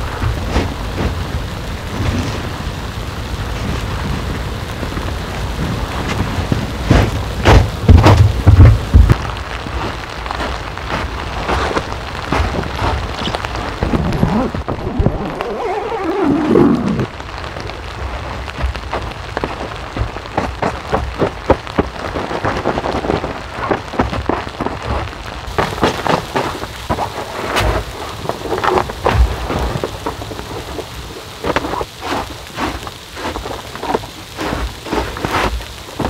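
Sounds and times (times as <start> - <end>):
hiss of rainfall: 0.0 - 36.0
raindrops pattering: 0.0 - 36.0.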